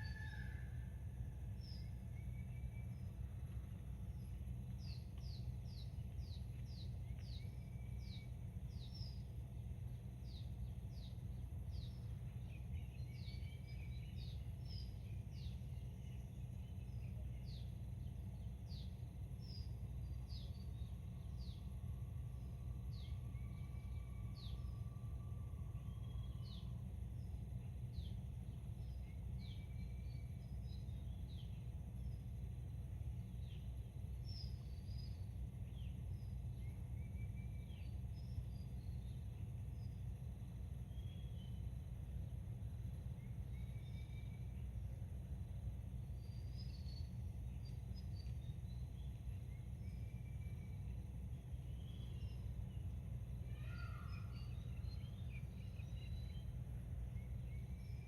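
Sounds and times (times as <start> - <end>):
steady low rumble: 0.0 - 58.0
small birds chirping: 1.5 - 21.9, 25.8 - 58.0.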